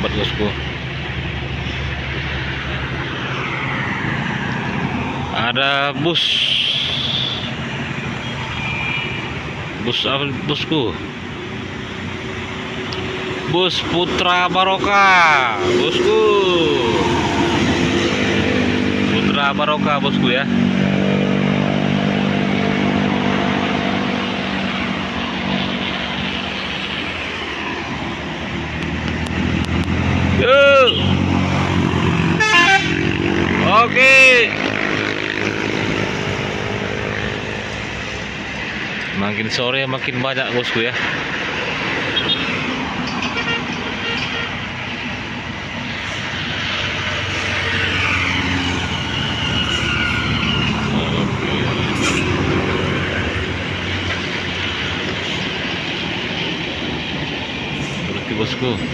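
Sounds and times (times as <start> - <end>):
bus diesel engine droning: 0.0 - 58.9
tyre and traffic noise: 0.0 - 58.9.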